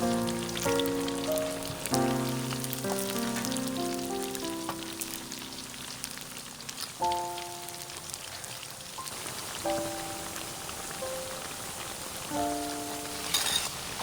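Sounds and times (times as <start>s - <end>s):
food frying in hot oil: 0.0s - 14.0s
music with slow held notes: 0.0s - 14.0s.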